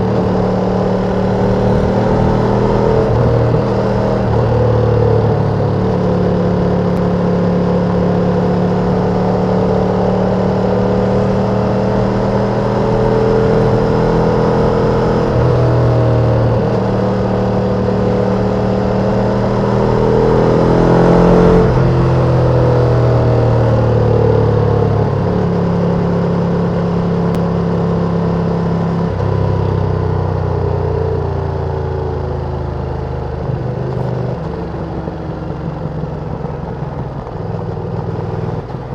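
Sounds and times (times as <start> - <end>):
motorcycle engine shifting gears: 0.0 - 30.8, 32.4 - 38.9.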